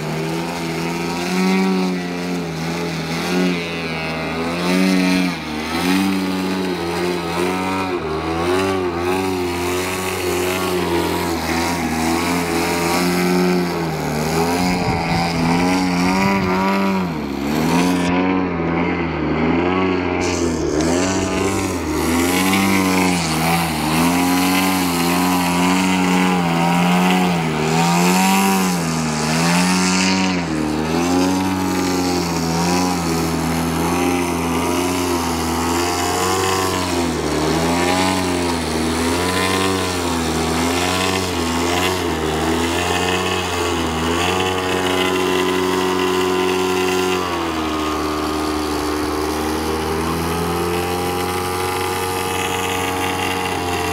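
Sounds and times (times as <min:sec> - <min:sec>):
model plane engine revving: 0:00.0 - 0:53.9.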